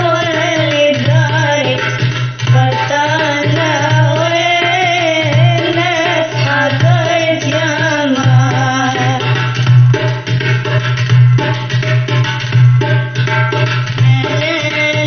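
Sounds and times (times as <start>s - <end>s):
steady drum rhythm: 0.0s - 15.0s.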